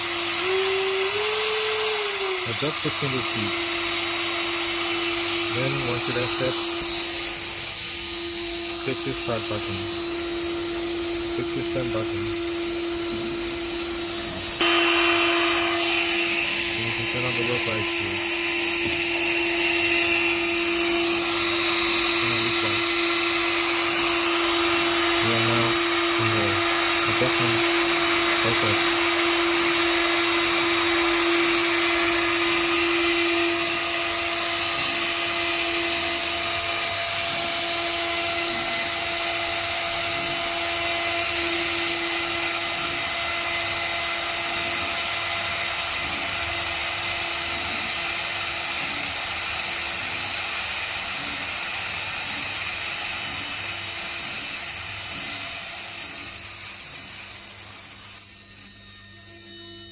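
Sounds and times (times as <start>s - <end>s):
router spindle whining: 0.0s - 59.9s.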